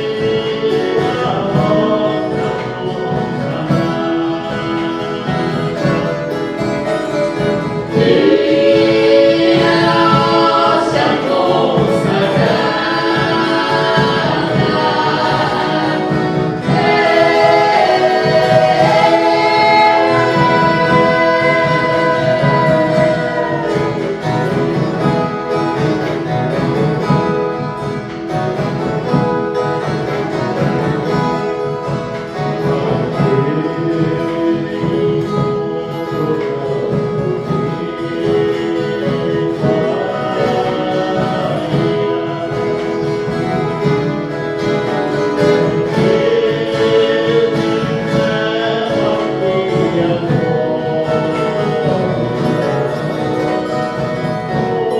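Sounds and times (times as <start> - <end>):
plucked and strummed guitars: 0.0 - 54.9
voices singing along: 0.0 - 54.9.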